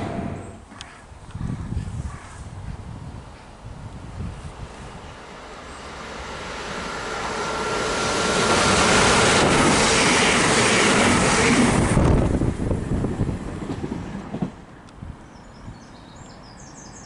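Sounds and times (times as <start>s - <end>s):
train passing at speed: 0.0s - 0.8s, 2.6s - 15.8s.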